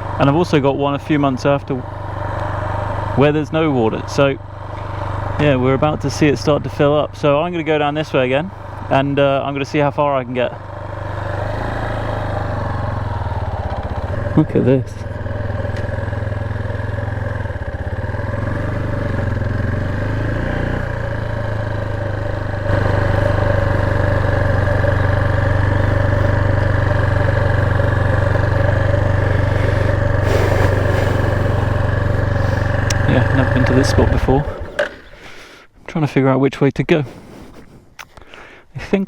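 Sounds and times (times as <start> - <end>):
motorcycle engine running: 0.0 - 35.5.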